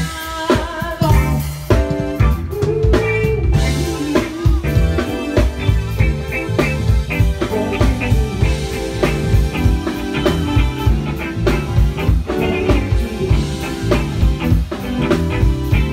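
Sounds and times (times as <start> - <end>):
drum kit beat: 0.0 - 15.9
live band playing: 0.0 - 15.9.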